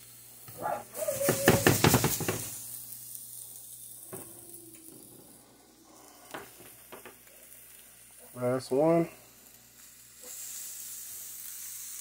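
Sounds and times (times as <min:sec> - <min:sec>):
burger patties sizzling in pan: 0:00.0 - 0:12.0.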